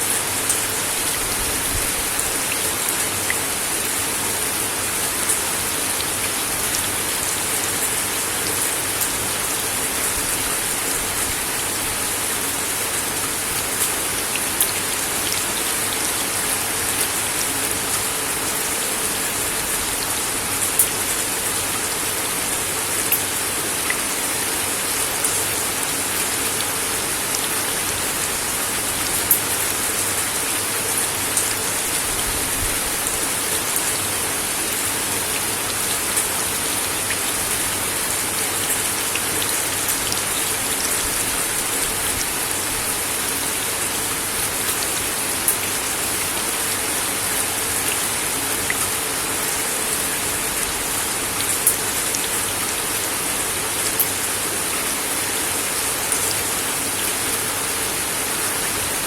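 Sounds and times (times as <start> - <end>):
rain on a wooden deck: 0.0 - 59.0.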